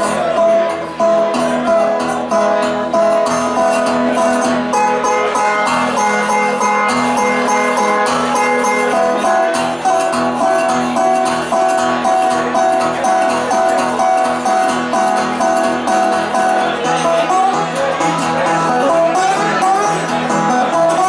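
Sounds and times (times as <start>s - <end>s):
resonator guitar picking: 0.0s - 21.0s.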